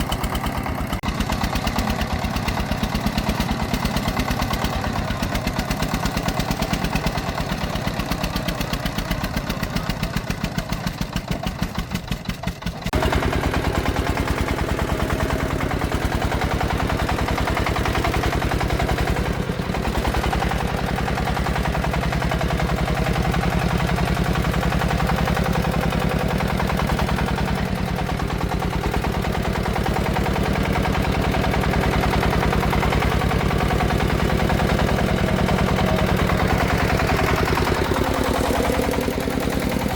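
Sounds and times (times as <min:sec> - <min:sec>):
single-cylinder diesel engine chugging: 0:00.0 - 0:39.9.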